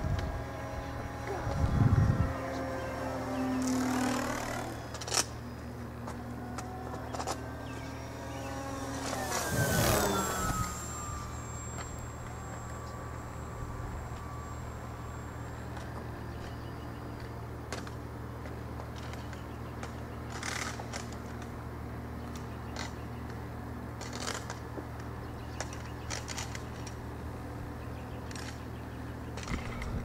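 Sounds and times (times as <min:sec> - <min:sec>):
model plane motor whining: 0:00.0 - 0:30.0.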